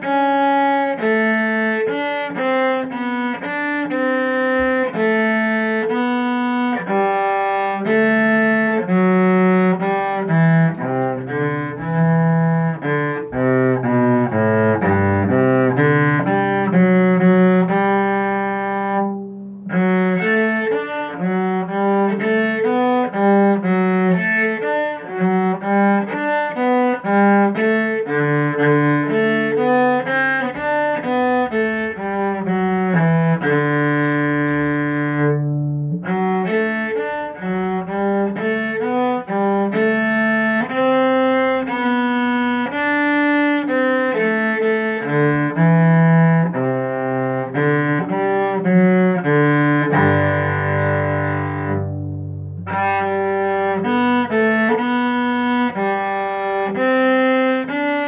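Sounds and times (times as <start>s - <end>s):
solo cello melody: 0.0s - 58.0s.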